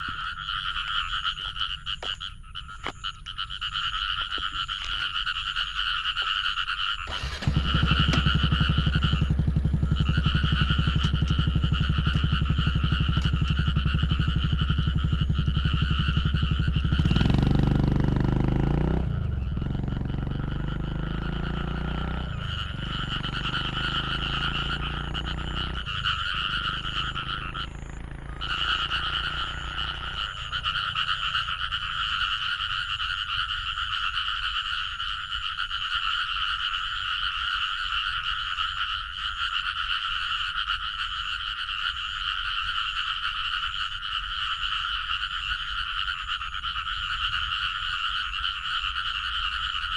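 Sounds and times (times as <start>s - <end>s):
frogs croaking chorus: 0.0s - 49.9s.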